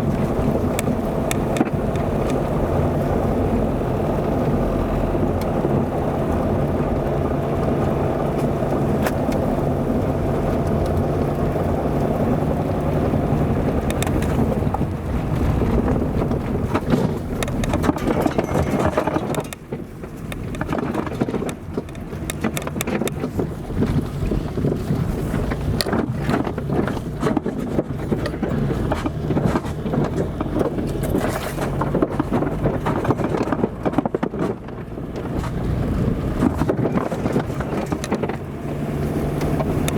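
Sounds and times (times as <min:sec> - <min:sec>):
car engine running: 0:00.0 - 0:39.9
car wheels knocking and rattling: 0:00.0 - 0:39.9.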